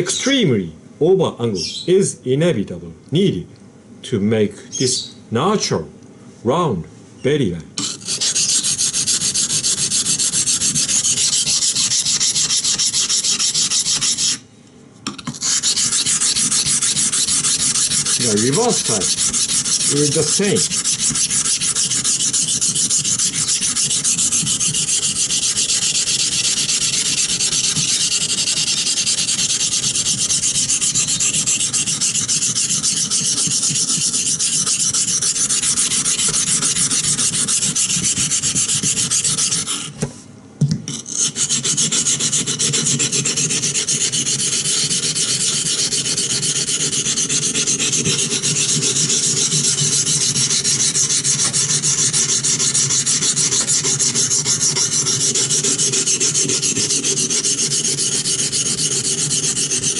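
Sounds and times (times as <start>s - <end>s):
knife scraping on a whetstone: 7.8s - 14.4s, 15.1s - 40.1s, 40.9s - 59.9s.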